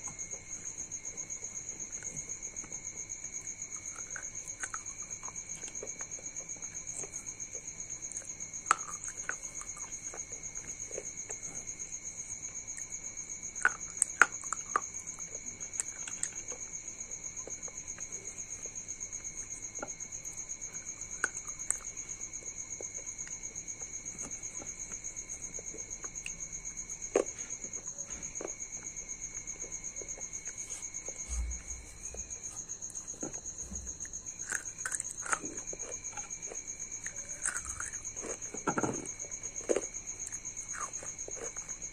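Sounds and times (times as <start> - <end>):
high-pitched insect trill: 0.0 - 41.9.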